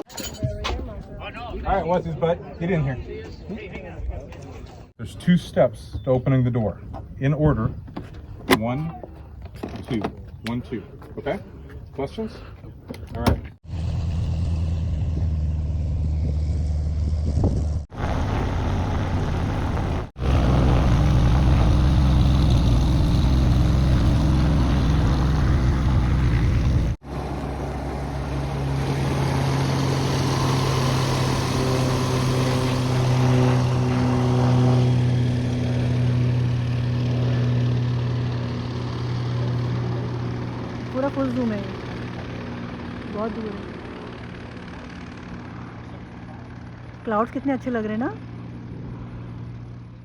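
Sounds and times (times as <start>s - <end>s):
light aircraft propeller engine: 5.9s - 50.0s.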